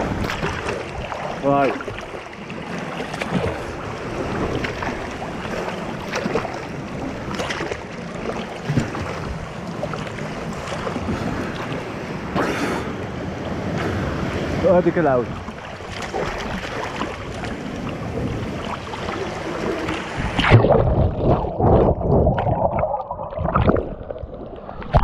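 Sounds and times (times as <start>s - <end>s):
seawater sloshing and splashing: 0.0s - 25.0s.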